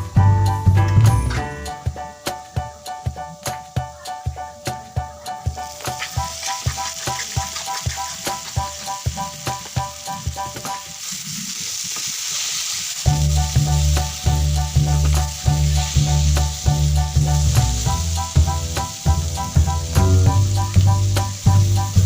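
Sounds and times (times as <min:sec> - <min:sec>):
background music with steady beat: 0:00.0 - 0:11.0, 0:13.1 - 0:22.0
oil sizzling in a frying pan: 0:00.0 - 0:22.0.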